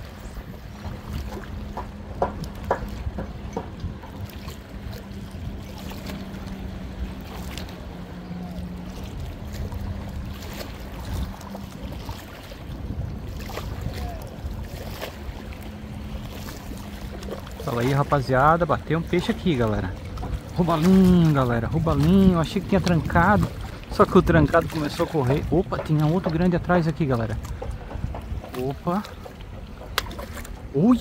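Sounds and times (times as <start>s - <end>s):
low motor hum: 0.0s - 31.0s
sea at rocks: 0.0s - 31.0s
wind on microphone: 0.0s - 31.0s.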